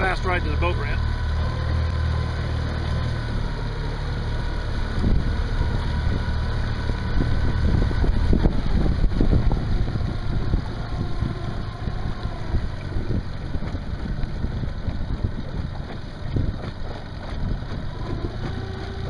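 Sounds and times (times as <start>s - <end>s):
outboard motor running: 0.0s - 19.0s
wind buffeting microphone: 1.4s - 19.0s.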